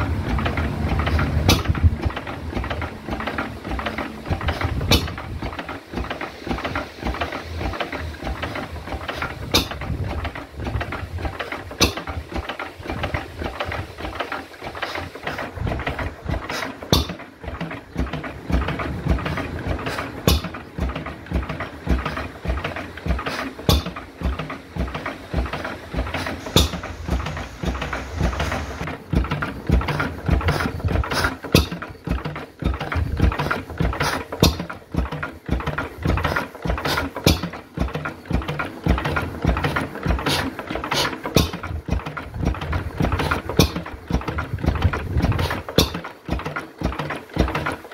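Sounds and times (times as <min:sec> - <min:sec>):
stationary engine running: 0:00.0 - 0:47.9
valve gear clattering: 0:00.0 - 0:47.9.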